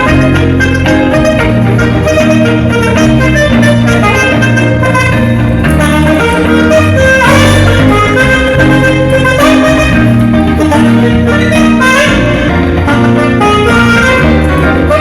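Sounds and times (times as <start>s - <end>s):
held bass notes: 0.0s - 15.0s
saxophone melody: 0.0s - 15.0s.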